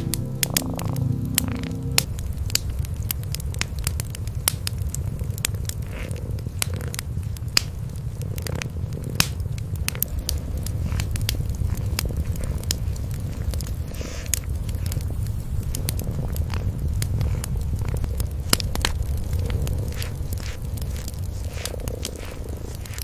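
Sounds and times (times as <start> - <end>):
cats purring: 0.0 - 23.0
wood fire crackling and popping: 0.0 - 23.0.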